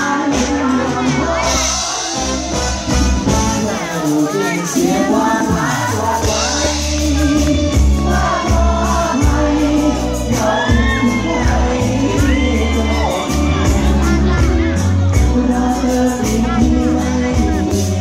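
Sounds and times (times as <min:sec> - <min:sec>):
band music with lead vocalist: 0:00.0 - 0:18.0
heavy repeating bass line: 0:00.0 - 0:18.0.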